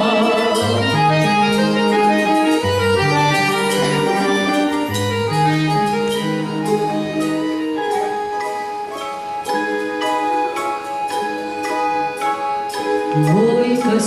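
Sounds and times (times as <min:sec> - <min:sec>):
instrumental melody with chords and bass: 0:00.0 - 0:14.0.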